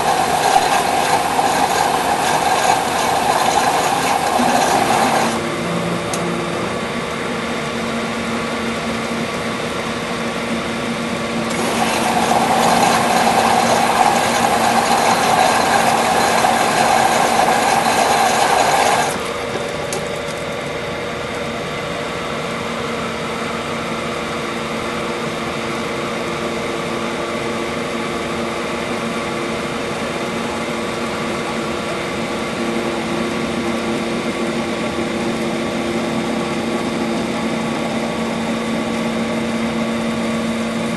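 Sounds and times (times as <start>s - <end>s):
humidifier humming and rattling: 0.0s - 40.9s.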